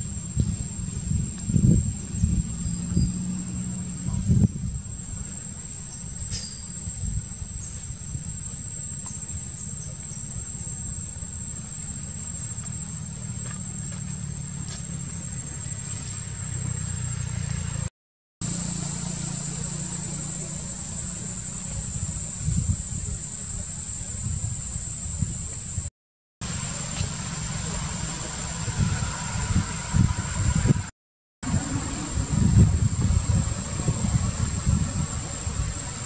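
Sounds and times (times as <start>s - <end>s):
high-pitched insect drone: 0.0s - 36.0s
low steady rumble: 0.0s - 36.0s.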